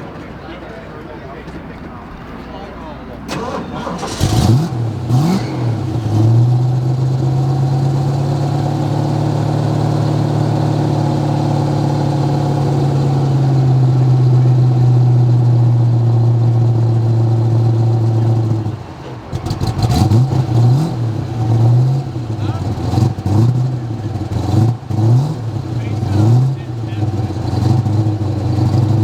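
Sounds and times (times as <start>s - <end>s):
engine running and revving: 3.3s - 29.0s.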